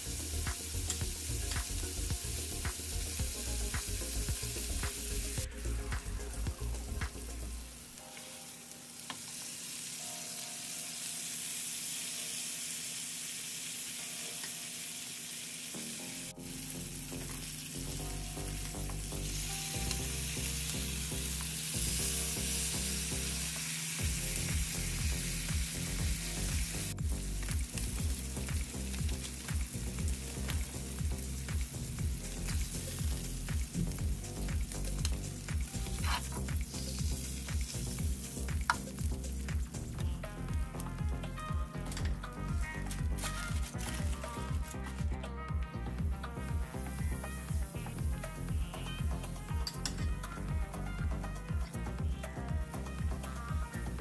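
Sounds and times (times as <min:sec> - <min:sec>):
steaks sizzling in hot oil: 0:00.0 - 0:45.2, 0:46.1 - 0:54.0.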